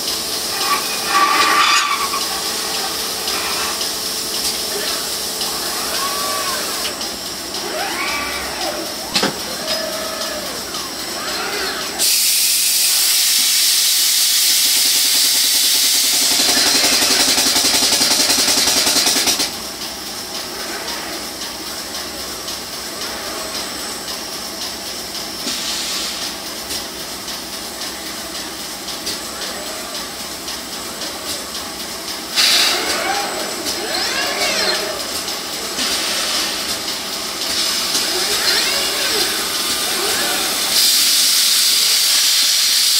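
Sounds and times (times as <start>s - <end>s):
loud machine hiss: 0.0s - 42.9s
steady machine noise: 0.0s - 42.9s.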